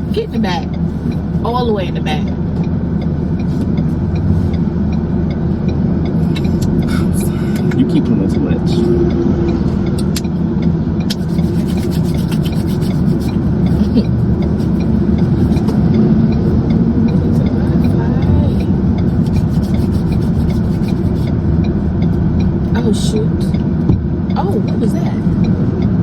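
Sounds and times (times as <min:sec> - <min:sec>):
car cabin road and engine noise: 0:00.0 - 0:26.0.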